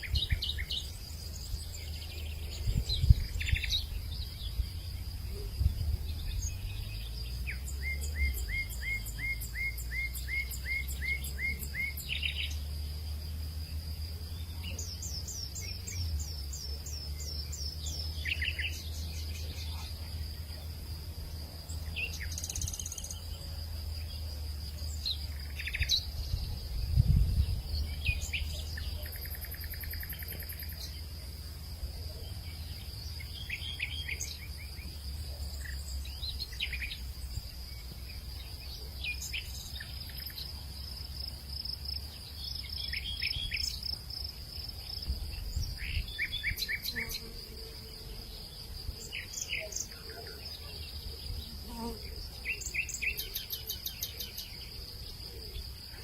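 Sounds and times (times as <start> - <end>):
low rumble of wind: 0.0 - 19.4, 23.1 - 49.4
crickets trilling: 0.0 - 56.0.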